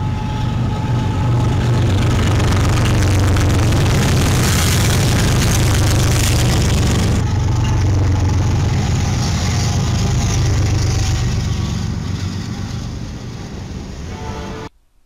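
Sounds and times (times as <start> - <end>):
diesel locomotive engine rumble: 0.0 - 14.7
rush of passing train: 0.0 - 14.8.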